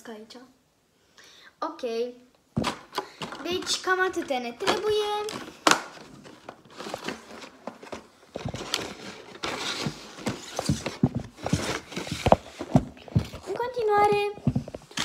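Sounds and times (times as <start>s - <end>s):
plastic trays clicking and rustling: 2.6s - 15.0s.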